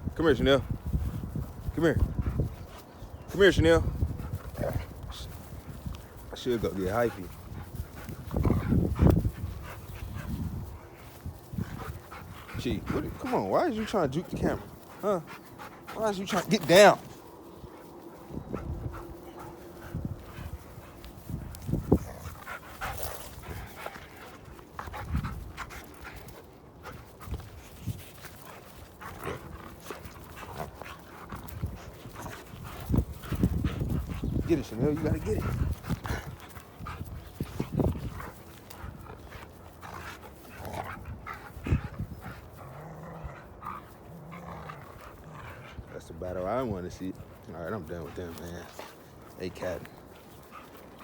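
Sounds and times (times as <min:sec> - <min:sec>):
dogs panting: 0:00.0 - 0:51.0
dogs scuffling: 0:00.7 - 0:51.0.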